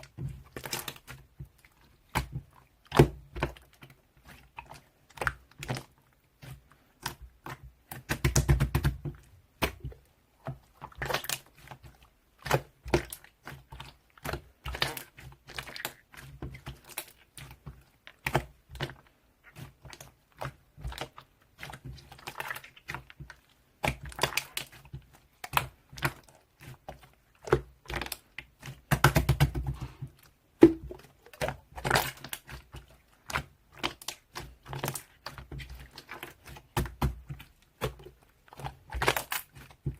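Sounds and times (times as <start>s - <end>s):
slime squishing by hand: 0.0s - 39.9s.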